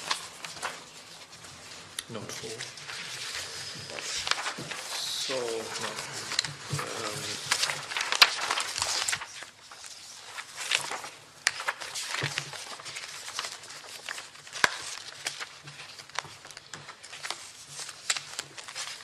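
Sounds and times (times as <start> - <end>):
pages being turned: 0.0 - 19.0
papers rustling: 0.0 - 19.0.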